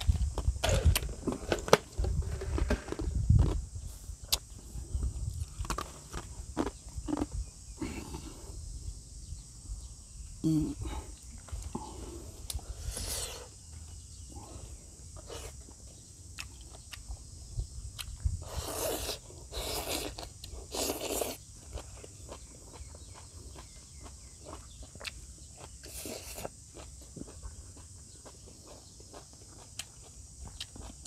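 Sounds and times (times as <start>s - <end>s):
crunchy chewing: 0.0s - 8.9s, 9.9s - 31.0s.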